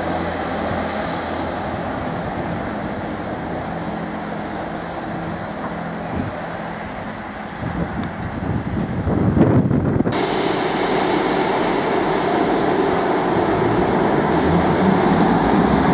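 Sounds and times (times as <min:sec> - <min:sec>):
train diesel engines droning: 0:00.0 - 0:15.9.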